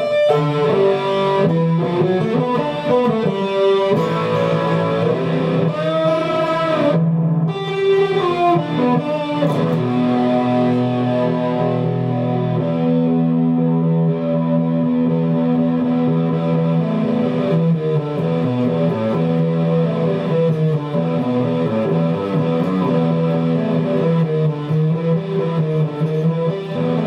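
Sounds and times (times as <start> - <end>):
electric guitar melody: 0.0 - 27.0.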